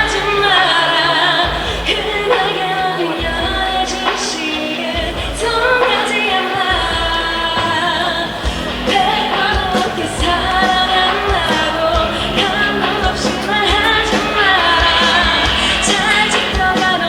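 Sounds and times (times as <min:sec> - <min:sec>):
live pop-rock band: 0:00.0 - 0:17.0
steady drum beat: 0:00.0 - 0:17.0
woman singing: 0:00.0 - 0:17.0.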